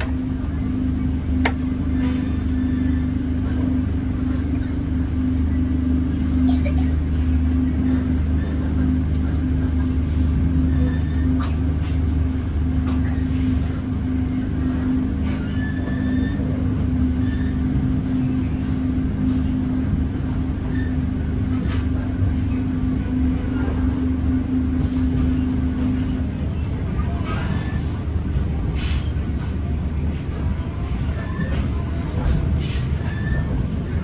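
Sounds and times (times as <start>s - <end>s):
train coach rumble and hum: 0.0s - 34.0s.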